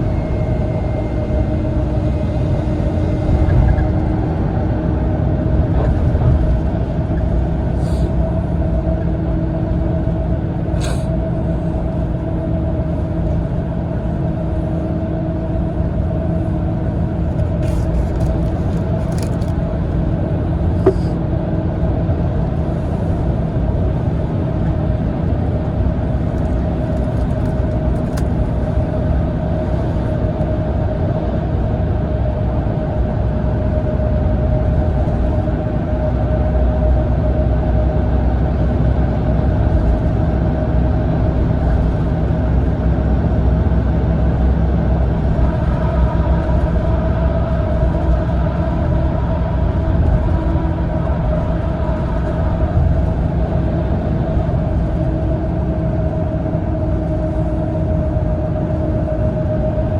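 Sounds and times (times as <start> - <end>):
diesel engine and road drone: 0.0 - 59.9
steady hum: 0.0 - 59.9.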